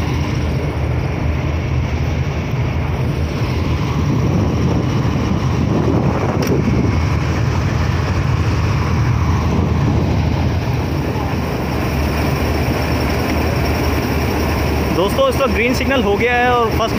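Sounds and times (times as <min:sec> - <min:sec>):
diesel locomotive idling: 0:00.0 - 0:16.9.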